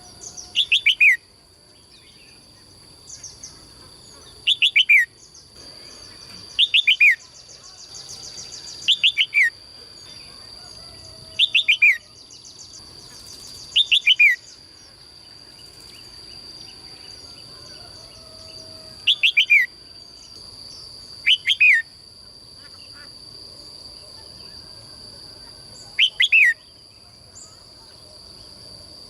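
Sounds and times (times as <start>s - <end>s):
steady high-pitched whine: 0.0s - 29.0s.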